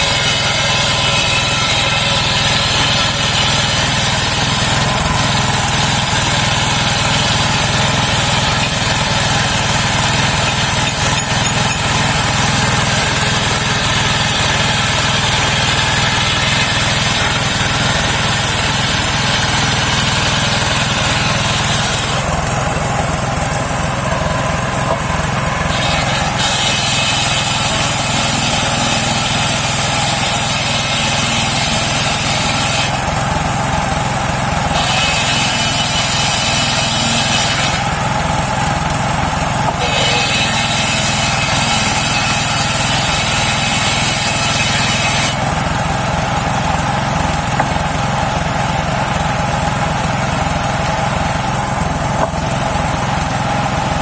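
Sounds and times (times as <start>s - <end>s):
circular sawmill engine running: 0.0s - 54.0s
saw blade cutting log: 0.0s - 54.0s.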